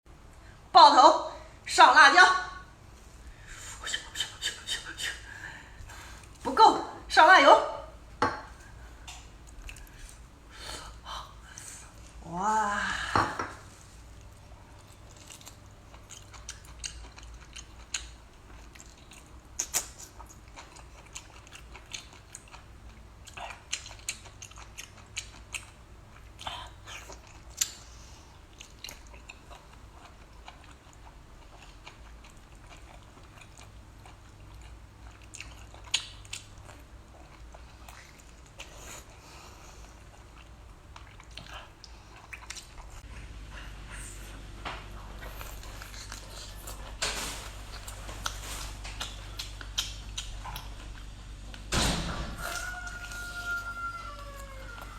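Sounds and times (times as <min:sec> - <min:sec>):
person chewing and crunching: 0:08.4 - 0:12.2, 0:13.6 - 0:51.7, 0:52.4 - 0:54.9.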